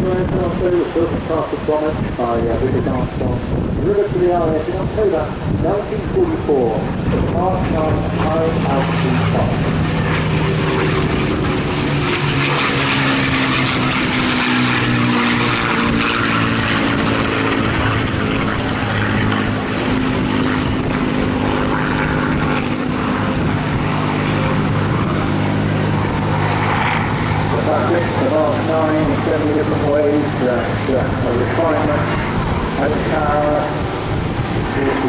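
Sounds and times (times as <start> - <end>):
propeller aircraft engine passing: 0.0 - 35.0.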